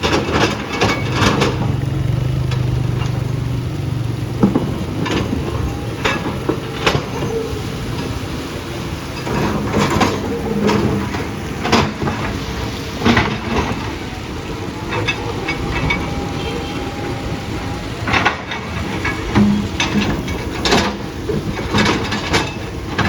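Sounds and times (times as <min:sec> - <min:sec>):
diesel engine running: 0:00.0 - 0:23.0
rock and metal clanking: 0:00.0 - 0:23.0.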